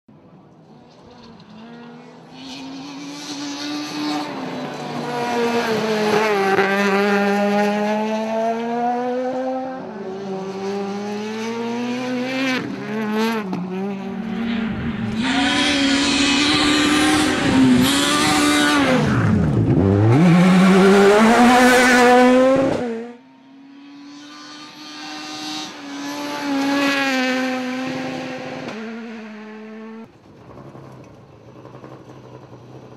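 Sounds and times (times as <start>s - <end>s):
rally car engine revving: 0.8s - 32.9s.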